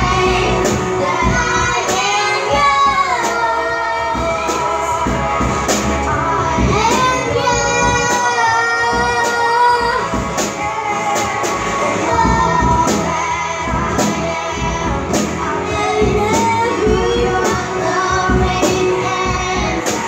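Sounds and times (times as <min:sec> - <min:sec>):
children singing into microphones: 0:00.0 - 0:20.0
rock song: 0:00.0 - 0:20.0.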